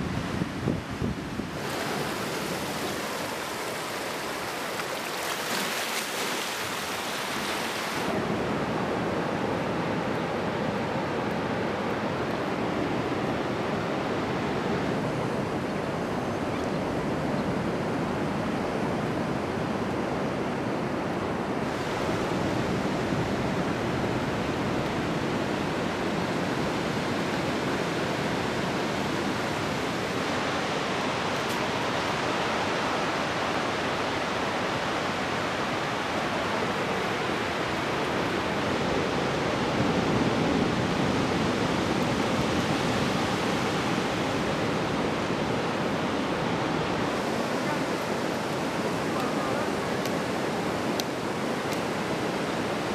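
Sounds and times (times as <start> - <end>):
ocean surf breaking on beach: 0.0 - 52.9.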